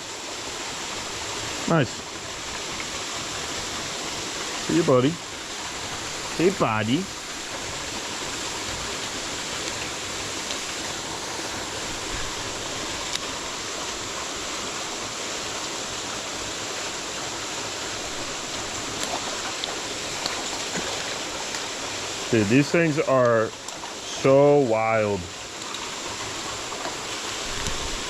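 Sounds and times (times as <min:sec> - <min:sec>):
stream water rushing: 0:00.0 - 0:28.0.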